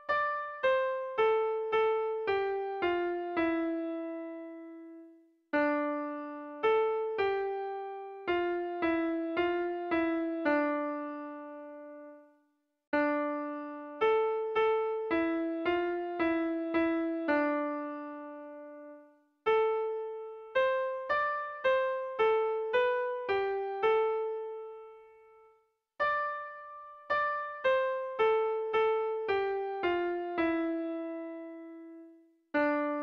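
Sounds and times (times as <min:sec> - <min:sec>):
electric piano melody: 0:00.0 - 0:05.0, 0:05.6 - 0:12.2, 0:13.0 - 0:33.0.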